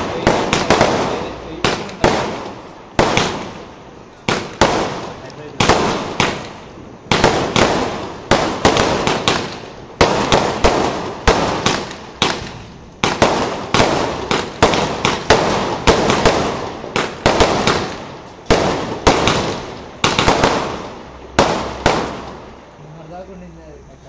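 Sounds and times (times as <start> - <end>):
fireworks bangs: 0.0 - 23.1.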